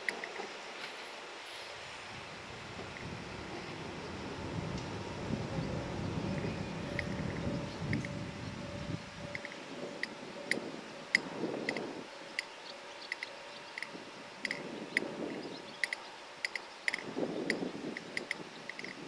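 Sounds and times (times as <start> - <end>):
electric train rumble: 1.4 - 18.5
faint hum: 1.5 - 17.1.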